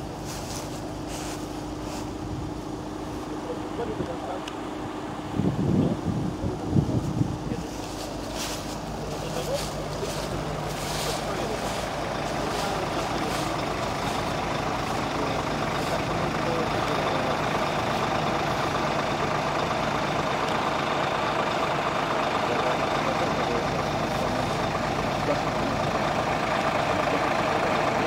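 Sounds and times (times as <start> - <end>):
diesel engines idling: 0.0 - 28.0.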